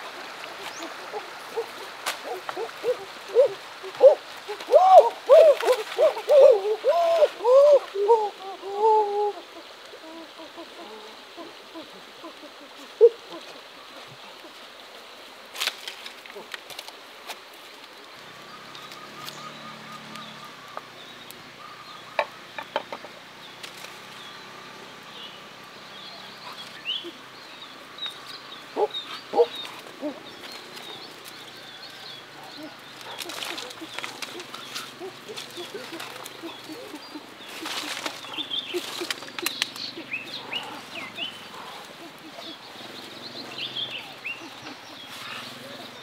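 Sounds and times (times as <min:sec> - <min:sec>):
faint outdoor ambience: 0:00.0 - 0:46.0.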